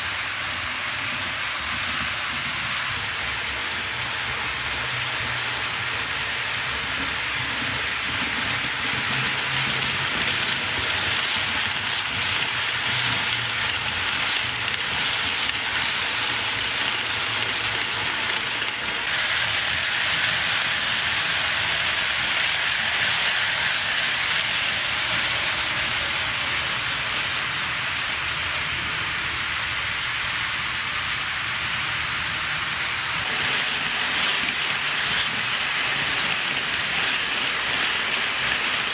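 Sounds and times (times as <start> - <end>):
model train wheels rattling on rails: 0.0 - 28.7, 29.8 - 38.9.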